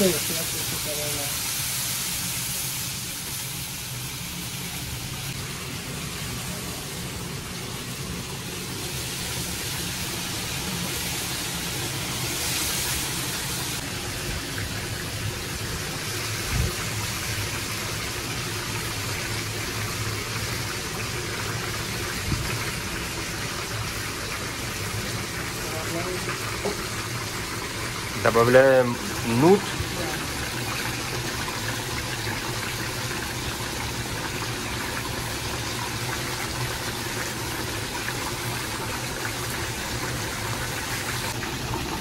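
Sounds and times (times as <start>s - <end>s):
water poured into hot pan: 0.0s - 42.0s.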